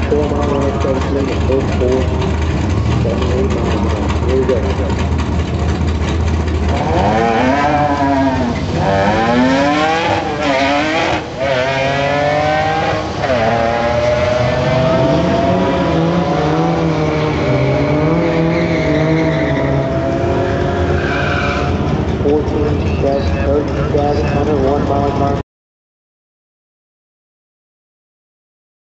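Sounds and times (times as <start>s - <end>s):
racing cars accelerating: 0.0s - 25.4s.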